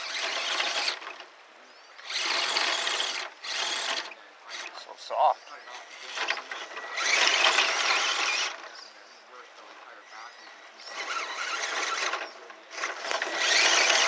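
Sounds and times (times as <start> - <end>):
electric motors whining: 0.0 - 1.3, 2.0 - 5.0, 5.6 - 8.8, 9.7 - 14.0.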